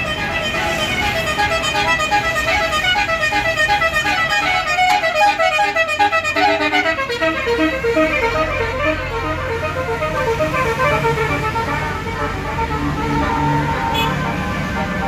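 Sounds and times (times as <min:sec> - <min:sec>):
bus horn playing melody: 0:00.0 - 0:15.0.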